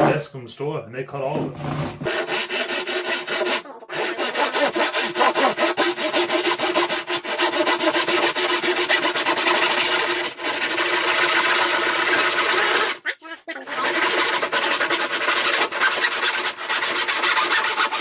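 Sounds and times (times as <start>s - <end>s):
saw cutting wooden board: 0.0s - 0.2s, 1.4s - 12.9s, 14.1s - 18.0s.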